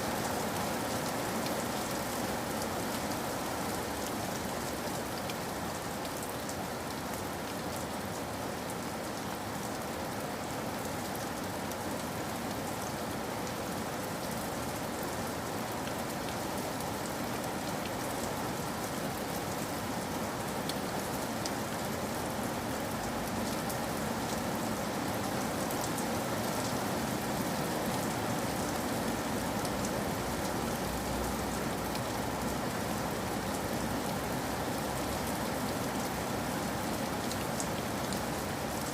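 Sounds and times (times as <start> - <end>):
steady rain in a forest: 0.0 - 38.9.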